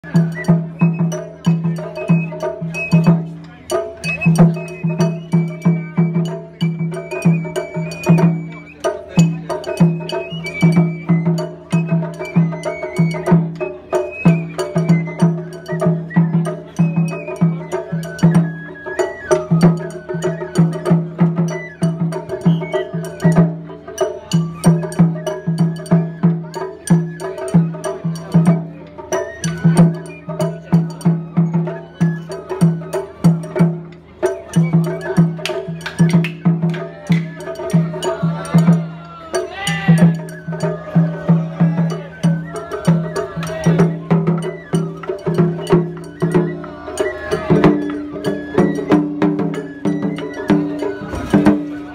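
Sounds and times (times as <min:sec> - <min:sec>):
bamboo flute melody: 0:00.0 - 0:51.9
taiko drum beats: 0:00.0 - 0:51.9.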